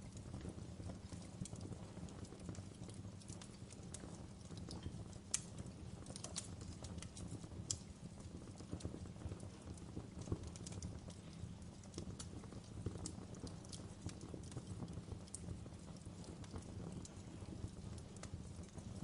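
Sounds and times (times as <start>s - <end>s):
low rumble of burning: 0.0s - 19.0s
wood fire crackling and popping: 0.0s - 19.0s.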